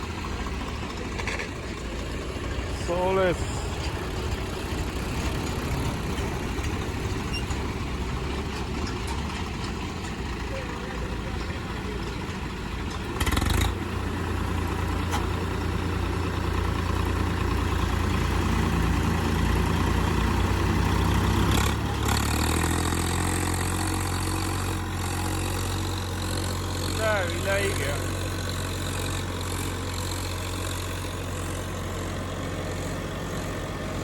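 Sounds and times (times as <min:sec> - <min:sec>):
tractor engines pulling hard: 0:00.0 - 0:34.0.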